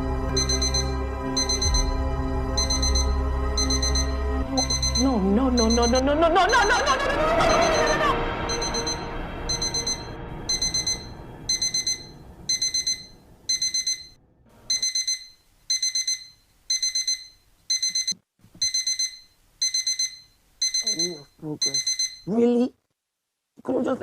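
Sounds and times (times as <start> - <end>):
electronic alarm beeping: 0.4 - 2.0, 2.6 - 22.3.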